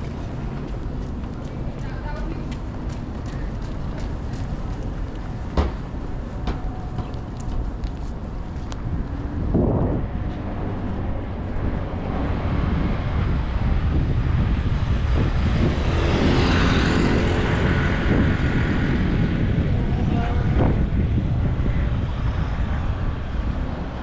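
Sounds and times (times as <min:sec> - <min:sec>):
city traffic rumble: 0:00.0 - 0:24.0
vehicle passing: 0:00.0 - 0:24.0.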